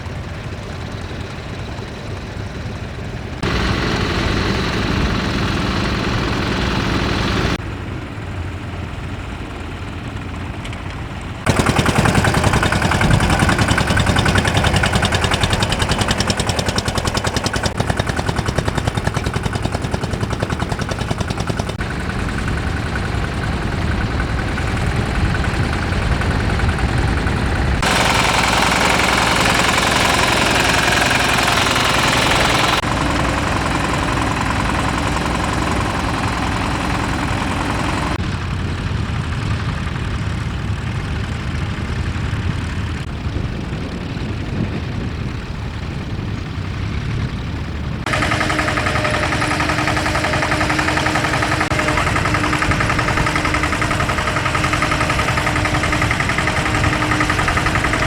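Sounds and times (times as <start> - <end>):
tractor engines under load: 0.0 - 58.0.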